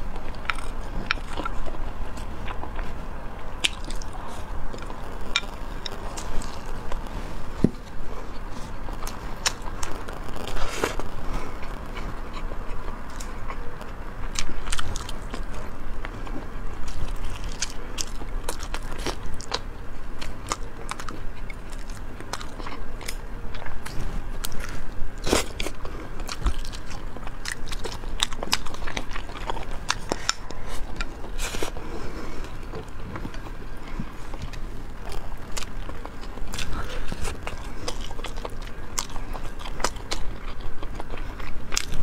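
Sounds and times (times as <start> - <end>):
biting and chewing: 0.0 - 42.0.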